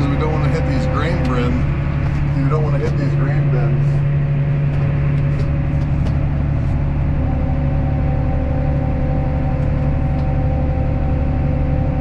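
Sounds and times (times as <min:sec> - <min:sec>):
steady high whine: 0:00.0 - 0:12.0
tractor engine running: 0:00.0 - 0:12.0.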